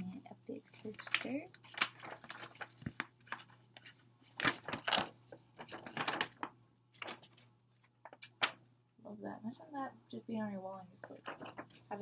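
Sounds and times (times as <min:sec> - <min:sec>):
paper rustling and crinkling: 0:00.0 - 0:08.6, 0:11.0 - 0:12.0.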